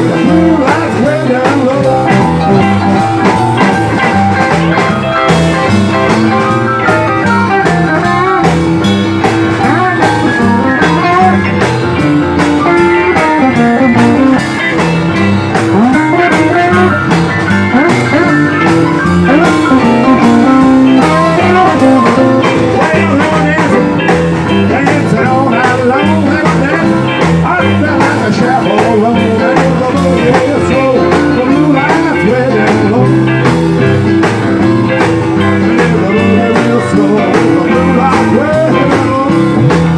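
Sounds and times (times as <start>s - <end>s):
band playing blues: 0.0s - 39.9s.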